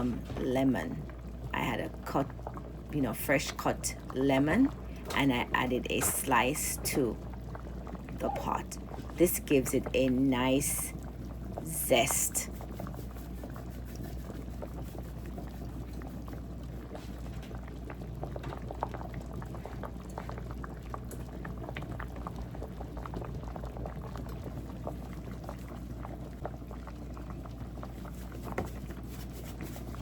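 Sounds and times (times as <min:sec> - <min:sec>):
soup boiling and bubbling: 0:00.0 - 0:30.0.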